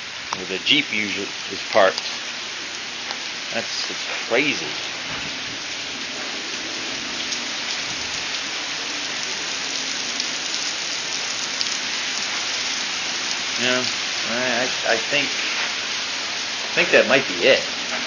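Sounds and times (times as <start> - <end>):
heavy rain on floodwater: 0.0 - 18.0.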